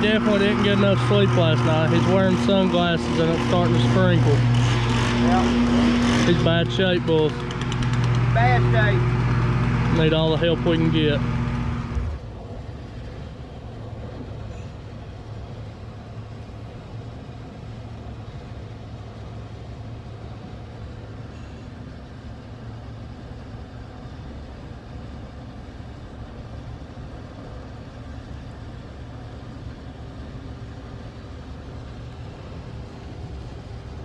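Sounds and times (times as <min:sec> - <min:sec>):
truck engine humming: 0:00.0 - 0:34.0.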